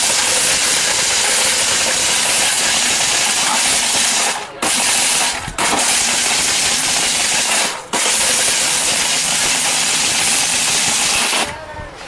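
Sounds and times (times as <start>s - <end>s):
blender grinding: 0.0s - 11.5s.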